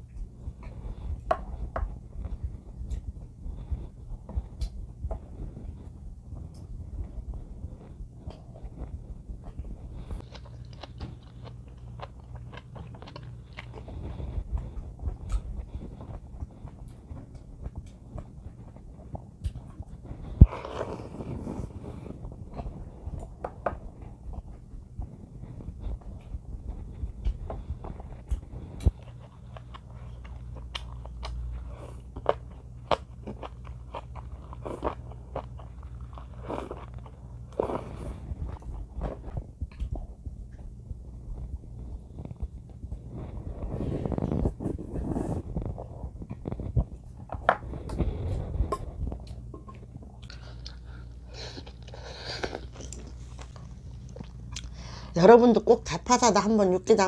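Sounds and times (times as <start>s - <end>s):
steady low hum: 0.0s - 57.0s
crunchy chewing: 0.1s - 54.9s.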